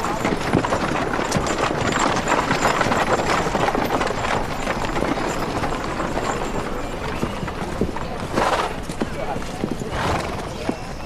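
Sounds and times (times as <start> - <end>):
horse hooves clip-clopping: 0.0 - 11.0.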